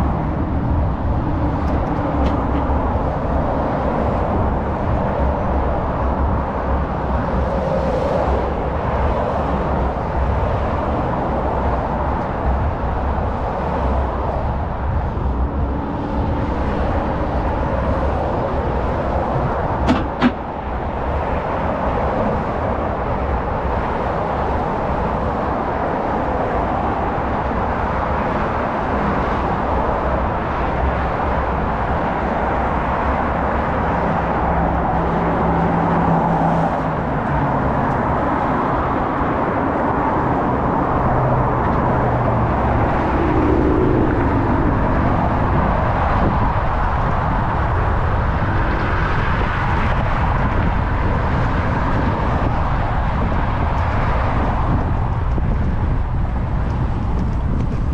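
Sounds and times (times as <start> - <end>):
road traffic noise: 0.0 - 57.9
vehicle engine low hum: 0.0 - 57.9.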